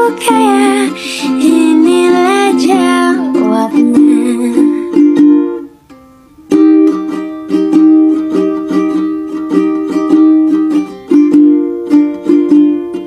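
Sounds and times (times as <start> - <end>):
plucked strings music: 0.0 - 13.0.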